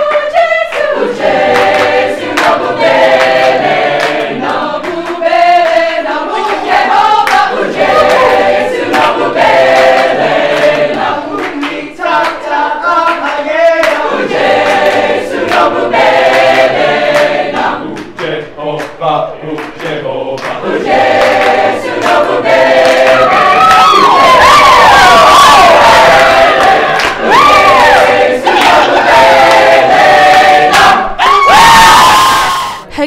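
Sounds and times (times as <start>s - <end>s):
mixed choir singing in harmony: 0.0s - 31.8s.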